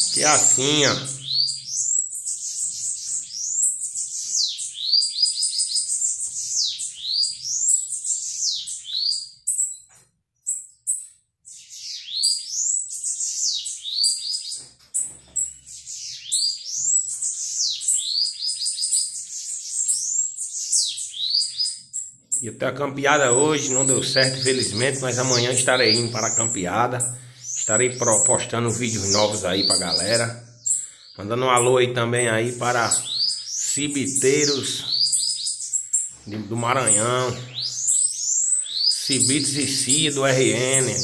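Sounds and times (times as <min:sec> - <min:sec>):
bird singing sweeping notes: 0:00.0 - 0:41.0.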